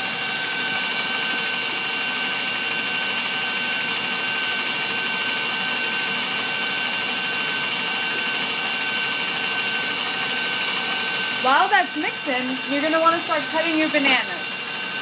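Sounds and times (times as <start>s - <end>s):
stand mixer whipping cream: 0.0s - 15.0s.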